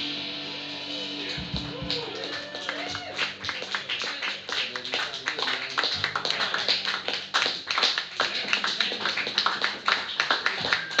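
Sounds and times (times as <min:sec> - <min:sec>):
audience applause: 0:01.4 - 0:11.0.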